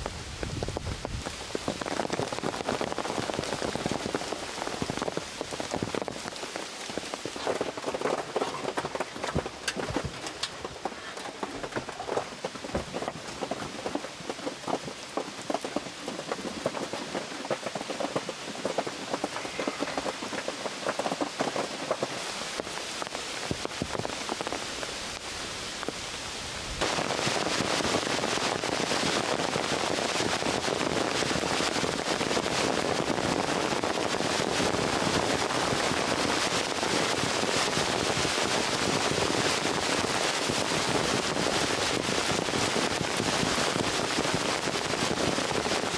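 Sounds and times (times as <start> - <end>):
heavy downpour: 0.0 - 45.9
raindrops on a hard surface: 0.0 - 45.9.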